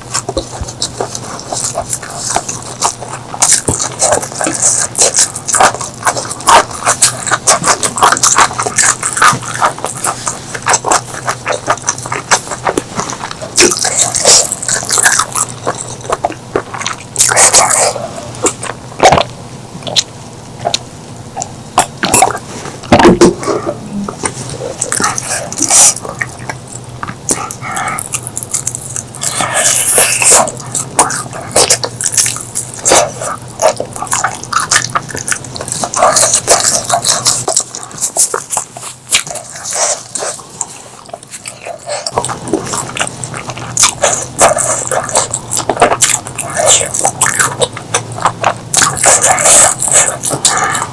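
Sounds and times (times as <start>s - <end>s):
crunchy chewing of vegetables: 0.0s - 50.9s
wet mouth smacking: 0.1s - 50.9s.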